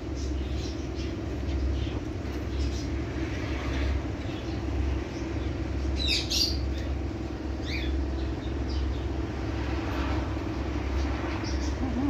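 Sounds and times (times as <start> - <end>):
low droning hum: 0.0 - 12.0.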